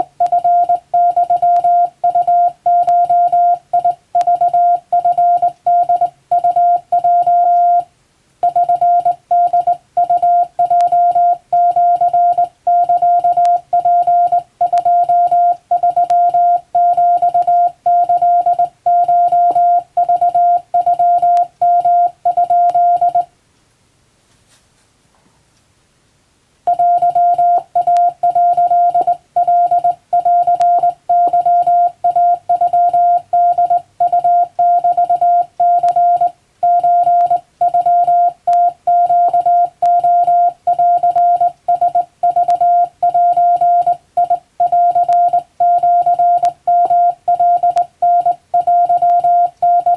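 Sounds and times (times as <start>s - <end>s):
morse code beeps: 0.0s - 23.3s, 26.7s - 49.9s.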